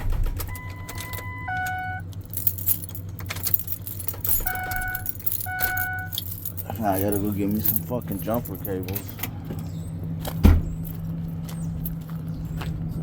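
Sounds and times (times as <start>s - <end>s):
steady low hum: 0.0s - 13.0s
keys jangling and clicking: 0.4s - 12.4s
vehicle warning chime dinging: 0.5s - 12.0s.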